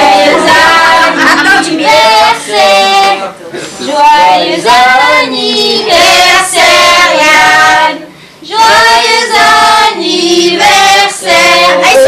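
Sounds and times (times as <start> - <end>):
children and women singing: 0.0 - 12.0.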